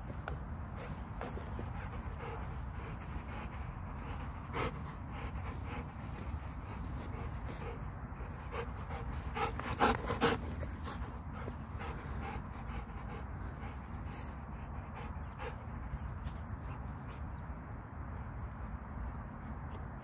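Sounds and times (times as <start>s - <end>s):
dog panting: 0.1s - 17.4s.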